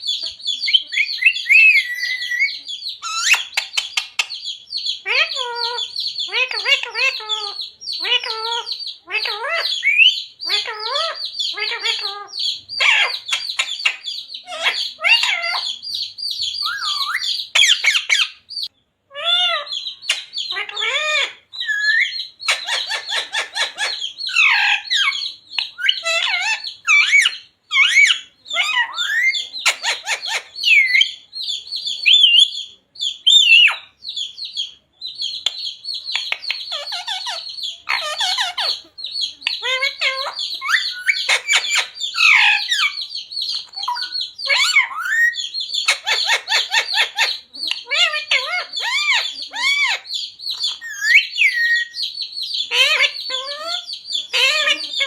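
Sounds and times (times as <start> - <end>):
parrot chirping and squawking: 0.0 - 55.0.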